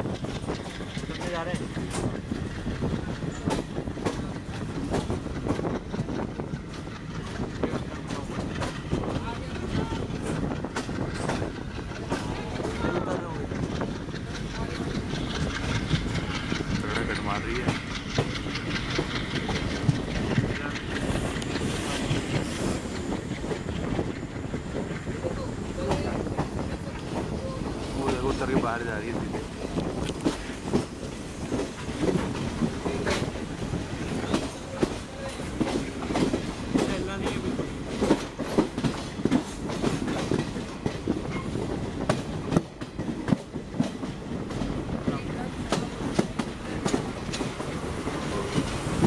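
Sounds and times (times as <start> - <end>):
train rumble: 0.0 - 49.0
wheels clacking over rail joints: 0.0 - 49.0.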